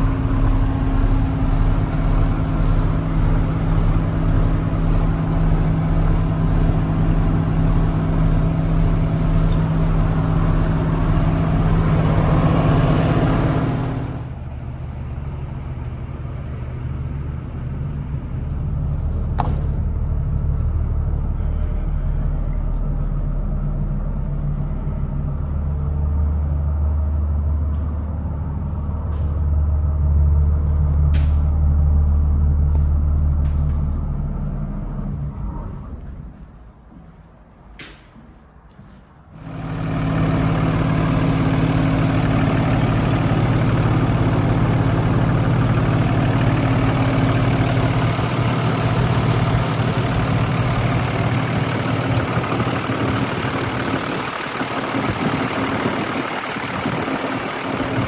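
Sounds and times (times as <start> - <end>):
diesel engine idling: 0.0 - 36.1, 39.4 - 58.0.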